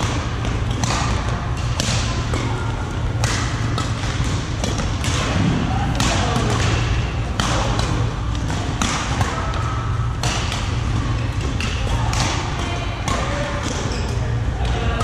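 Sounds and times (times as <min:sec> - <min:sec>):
rackets hitting shuttlecock: 0:00.0 - 0:14.8
busy sports hall background noise: 0:00.0 - 0:15.0
steady low hum: 0:00.0 - 0:15.0.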